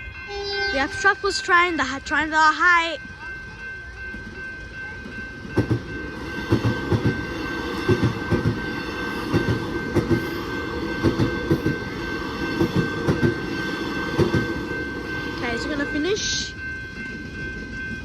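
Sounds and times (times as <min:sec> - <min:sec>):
crossing warning bell: 0:00.0 - 0:18.0.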